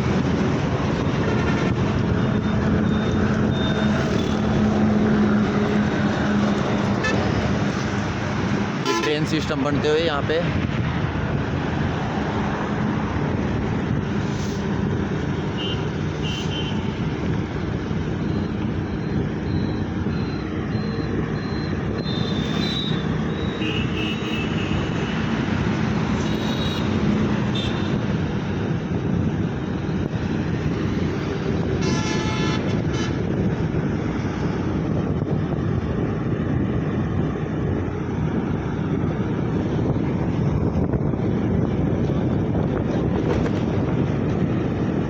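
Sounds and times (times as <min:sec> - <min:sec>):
highway traffic noise: 0:00.0 - 0:45.0.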